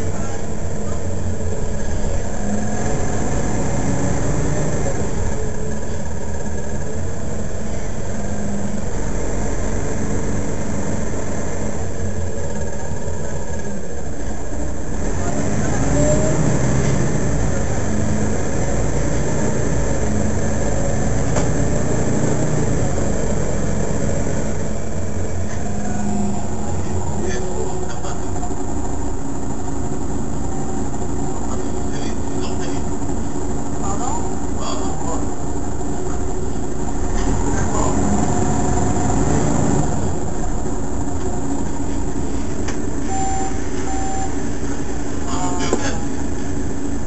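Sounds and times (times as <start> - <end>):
bus engine idling: 0.0 - 47.0.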